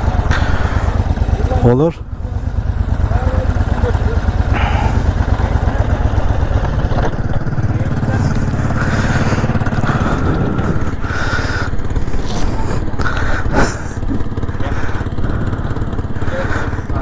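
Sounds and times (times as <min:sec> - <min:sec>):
quad engines rumbling: 0:00.0 - 0:17.0.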